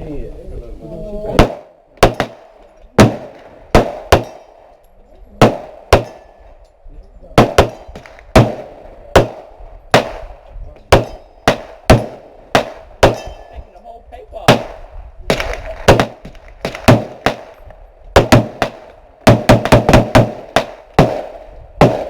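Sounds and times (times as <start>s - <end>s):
gunshots with echo: 1.4s - 4.7s, 5.4s - 6.5s, 7.4s - 13.6s, 14.4s - 22.0s.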